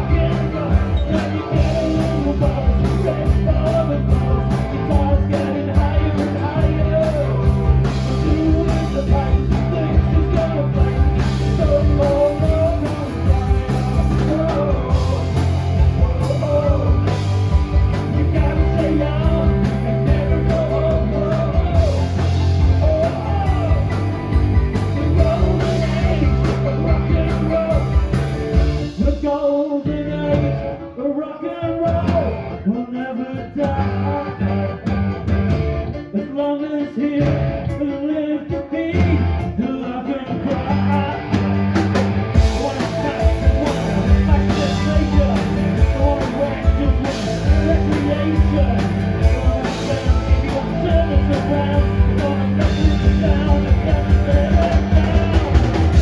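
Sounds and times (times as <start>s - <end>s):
person singing lead vocal: 0.0s - 35.3s, 35.9s - 56.0s
live rock band playing: 0.0s - 56.0s.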